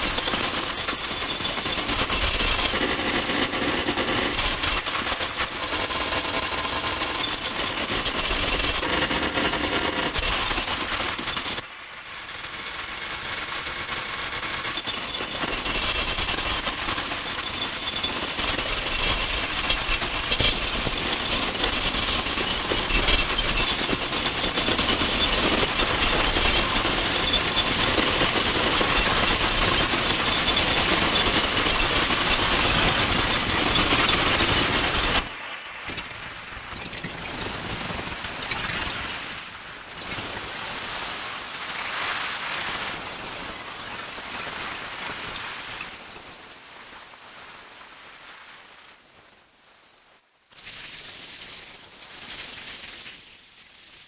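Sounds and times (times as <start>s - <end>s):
dense experimental noise texture: 0.0s - 48.9s.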